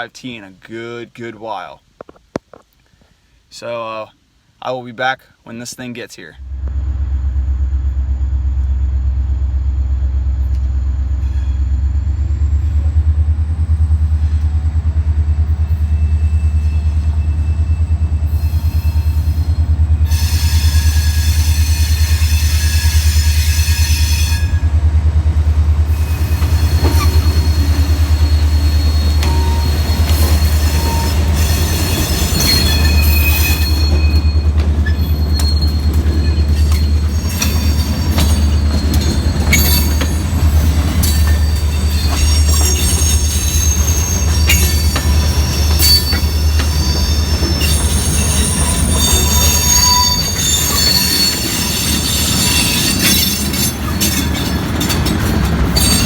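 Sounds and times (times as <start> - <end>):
train rumbling past: 6.3 - 56.0
wheel squeal on rails: 10.2 - 24.9, 25.8 - 56.0
wheels clicking over rail joints: 10.4 - 56.0.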